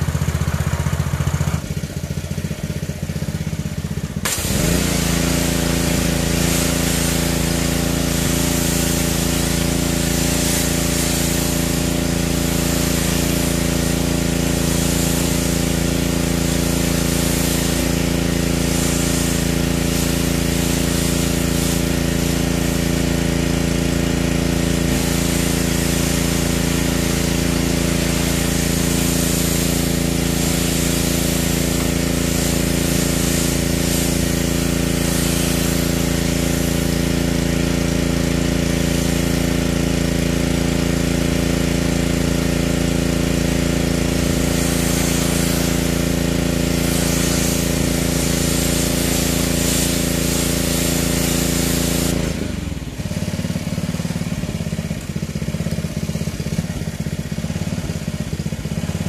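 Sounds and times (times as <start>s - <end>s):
pressure washer motor hum: 0.0s - 59.0s
water jet hissing: 0.0s - 59.0s.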